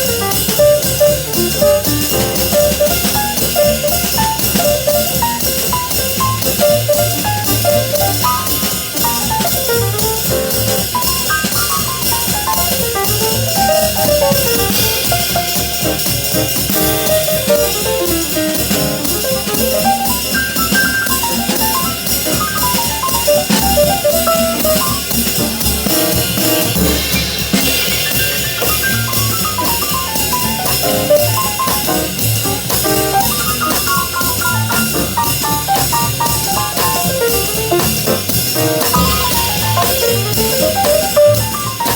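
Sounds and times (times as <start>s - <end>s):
drum kit cymbal pattern: 0.0s - 41.9s
jazz group playing: 0.0s - 41.9s.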